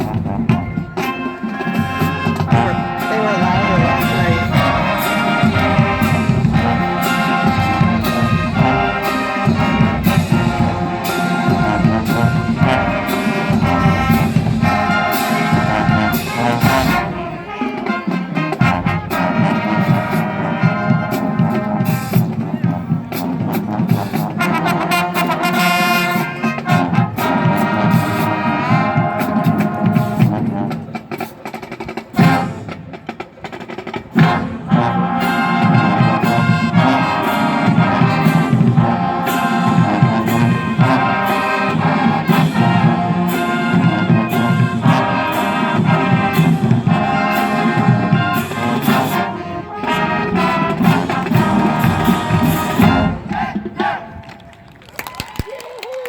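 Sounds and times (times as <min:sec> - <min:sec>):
marching band playing: 0:00.0 - 0:54.8.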